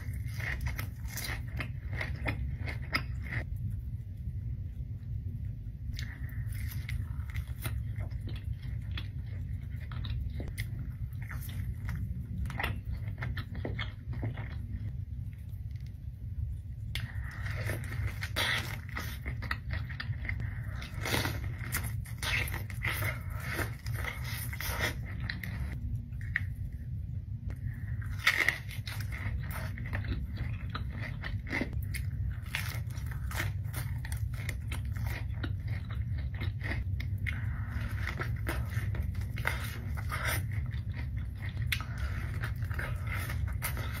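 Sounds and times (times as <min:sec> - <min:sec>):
crunchy chewing of fried food: 0:00.0 - 0:05.1, 0:05.8 - 0:16.0, 0:16.6 - 0:44.0
low hum: 0:00.0 - 0:44.0.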